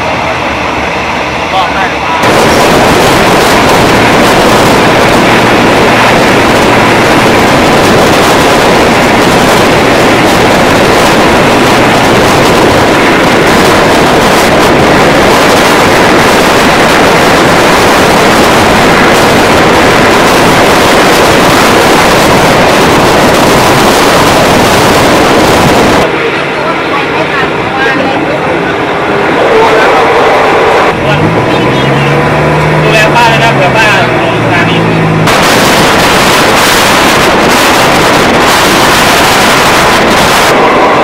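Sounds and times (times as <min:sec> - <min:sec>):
train running noise: 0:00.0 - 0:41.0
wind buffeting microphone: 0:00.0 - 0:41.0.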